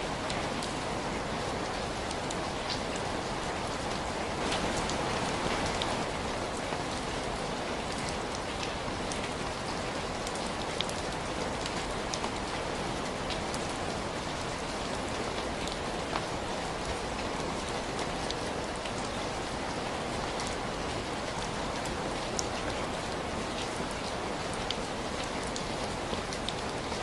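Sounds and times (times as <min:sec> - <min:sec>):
rain hiss: 0:00.0 - 0:27.0.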